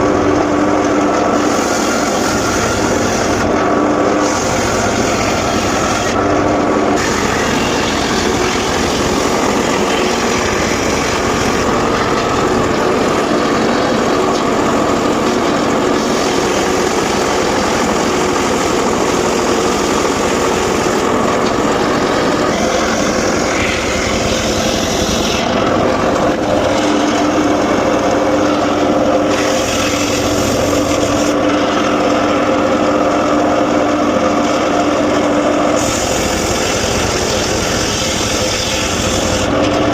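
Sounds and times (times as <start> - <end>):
circular saw engine running: 0.0 - 39.9
saw cutting wood hiss: 1.2 - 31.6, 35.5 - 39.6.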